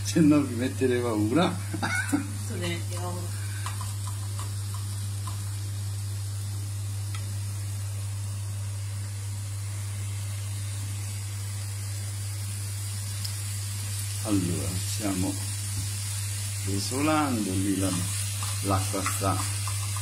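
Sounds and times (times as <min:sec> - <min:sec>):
meat sizzling in frying pan: 0:00.0 - 0:20.0
steady low hum: 0:00.0 - 0:20.0.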